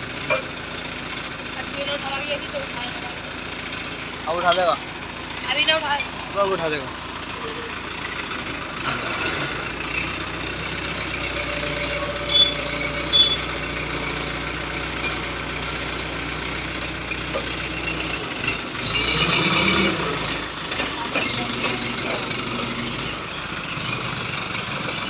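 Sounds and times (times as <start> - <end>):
diesel crane engine running: 0.0 - 25.0.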